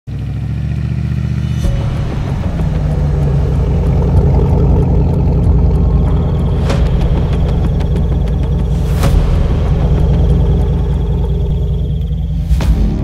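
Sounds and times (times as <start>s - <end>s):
vehicle engine running: 0.1s - 13.0s.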